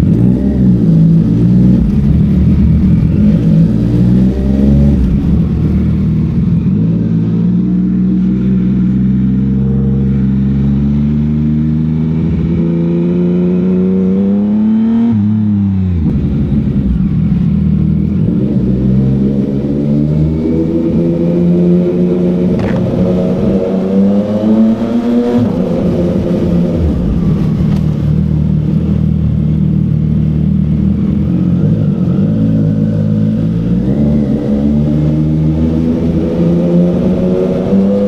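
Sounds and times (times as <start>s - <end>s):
motorcycle engine revving at speed: 0.0s - 38.0s.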